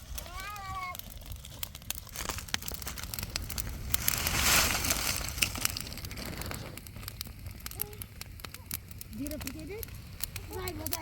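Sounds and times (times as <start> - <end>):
rustling and crackling: 0.0 - 11.0.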